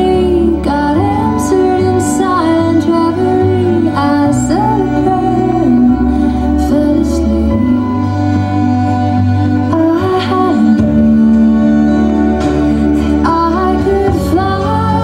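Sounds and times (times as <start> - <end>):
slow gentle music: 0.0 - 15.0.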